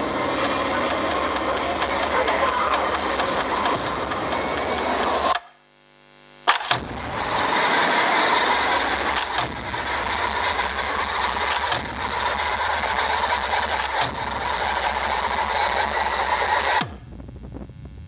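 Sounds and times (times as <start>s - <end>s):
dense steady soundtrack noise: 0.0s - 5.4s, 6.5s - 17.0s.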